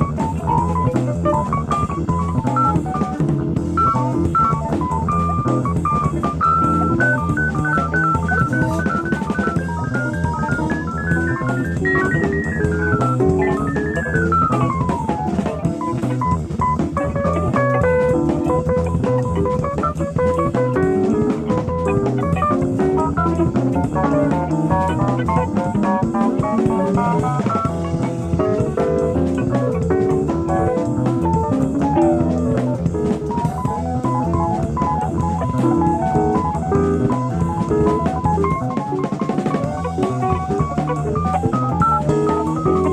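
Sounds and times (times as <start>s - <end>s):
bass: 0.0s - 42.9s
drum kit: 0.0s - 42.9s
fast lead melody line: 0.0s - 42.9s
jazz band playing: 0.0s - 42.9s.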